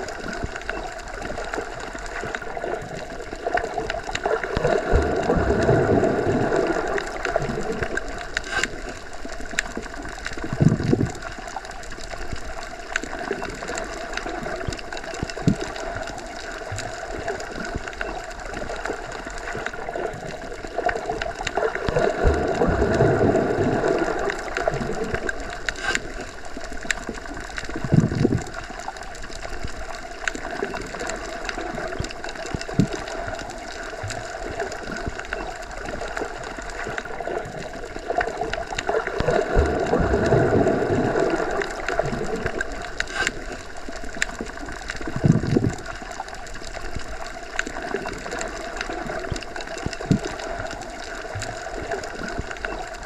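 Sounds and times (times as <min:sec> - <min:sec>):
low water surges: 0:00.0 - 0:53.0
underwater rushing and gurgling: 0:00.0 - 0:53.0.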